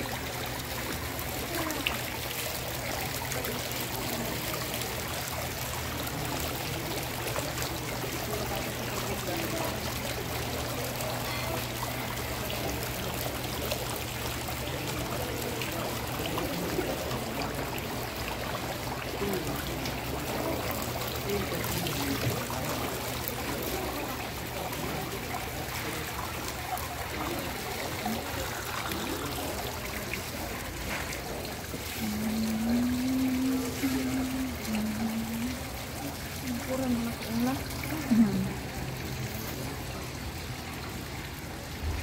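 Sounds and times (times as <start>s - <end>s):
water cascading down fountain: 0.0s - 42.0s.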